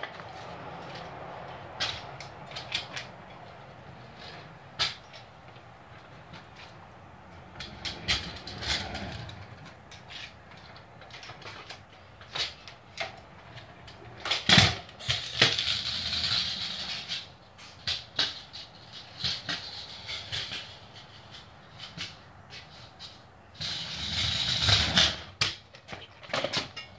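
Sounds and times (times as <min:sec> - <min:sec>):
kick scooter hitting concrete: 0:00.0 - 0:26.9
scooter rolling and scraping: 0:00.0 - 0:26.9.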